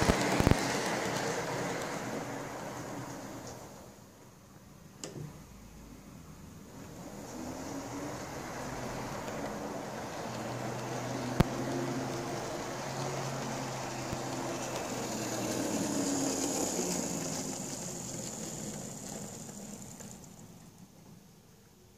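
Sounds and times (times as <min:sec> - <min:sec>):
model train motor whirring: 0:00.0 - 0:04.0, 0:06.8 - 0:20.8
wheels running on rails: 0:00.0 - 0:04.1, 0:06.6 - 0:21.2.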